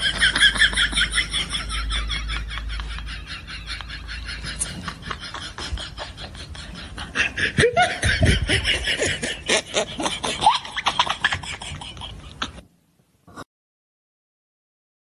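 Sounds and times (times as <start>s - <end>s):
people laughing: 0.0s - 12.6s.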